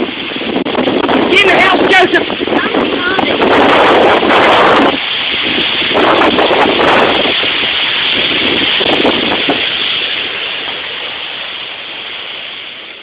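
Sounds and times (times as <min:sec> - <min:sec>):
heavy rain: 0:00.0 - 0:13.0
storm wind: 0:00.0 - 0:13.0.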